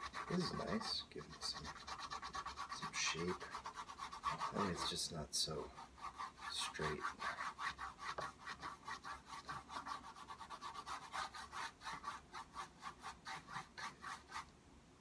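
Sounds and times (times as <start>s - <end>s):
paintbrush scrubbing on canvas: 0.0s - 14.5s.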